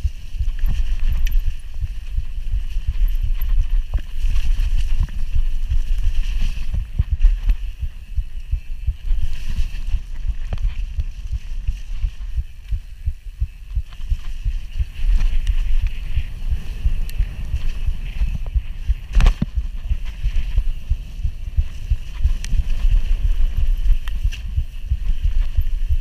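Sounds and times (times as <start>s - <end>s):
bike knocking and rattling: 0.0s - 26.0s
wind buffeting microphone: 0.0s - 26.0s.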